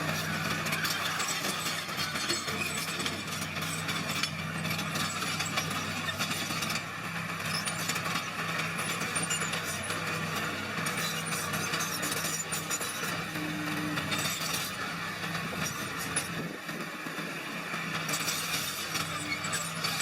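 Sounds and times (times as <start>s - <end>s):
bulldozer diesel engine running: 0.0s - 20.0s
clanks and crunches of tracks and stone: 0.0s - 20.0s.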